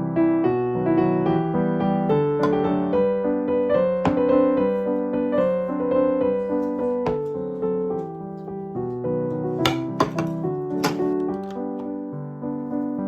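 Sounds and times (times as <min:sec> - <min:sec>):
piano melody over held chords: 0:00.0 - 0:13.0.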